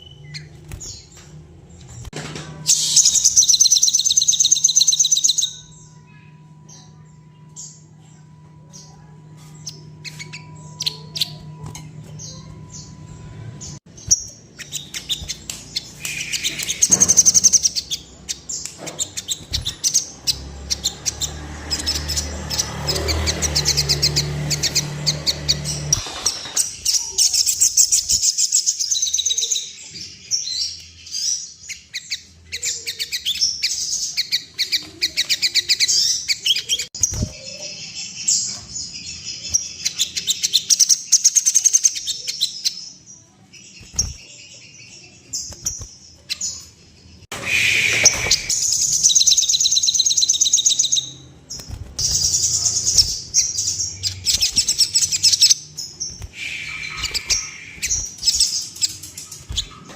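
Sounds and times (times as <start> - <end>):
bird singing rapid trills: 2.7 - 59.9.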